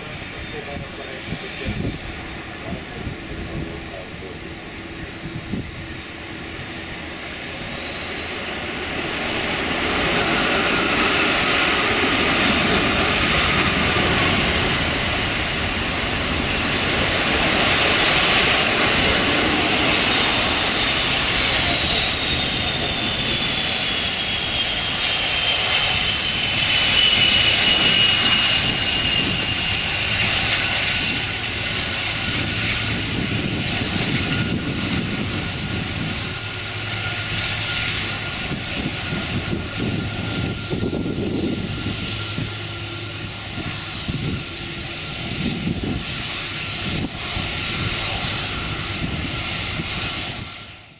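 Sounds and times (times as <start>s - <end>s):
high engine whine: 0.0s - 50.9s
jet engines roaring: 0.0s - 50.9s.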